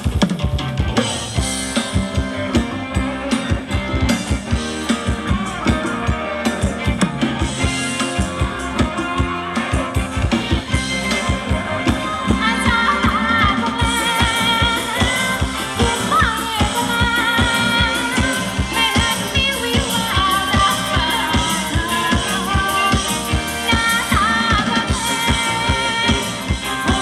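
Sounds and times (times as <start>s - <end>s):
drum kit beat: 0.0s - 27.0s
live band dance music: 0.0s - 27.0s.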